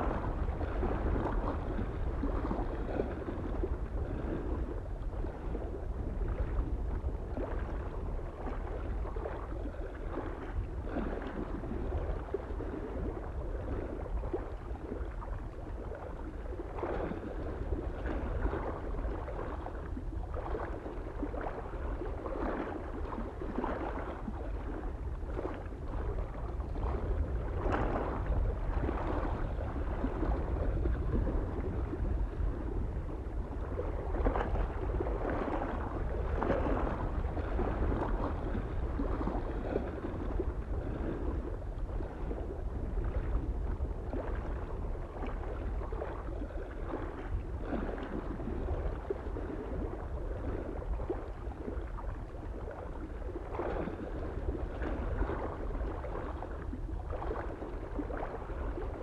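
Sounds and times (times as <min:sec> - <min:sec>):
soft wind rumble: 0:00.0 - 0:59.0
waves lapping on shore: 0:00.0 - 0:59.0.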